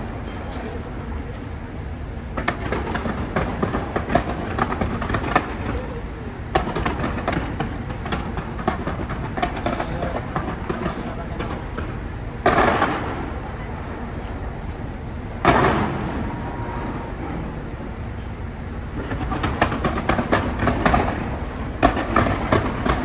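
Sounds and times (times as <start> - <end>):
fireworks crackling and popping: 1.4 - 16.3, 18.8 - 23.0.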